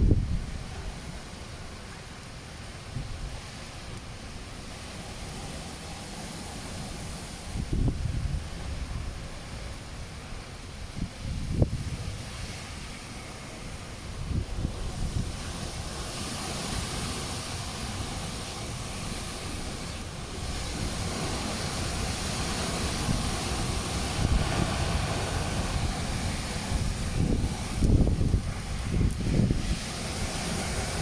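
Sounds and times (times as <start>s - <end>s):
storm wind buffeting microphone: 0.0s - 1.9s, 2.8s - 31.0s
steady hiss: 0.0s - 31.0s.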